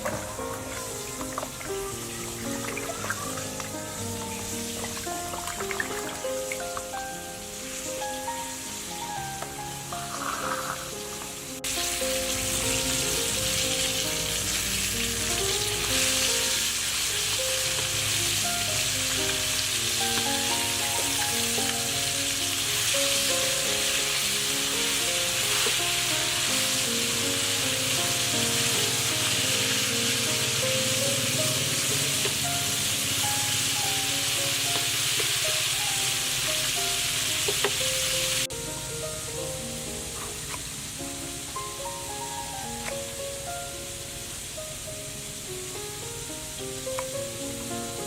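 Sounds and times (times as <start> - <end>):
background music: 0.0 - 48.0
food sizzling in hot oil: 0.0 - 48.0.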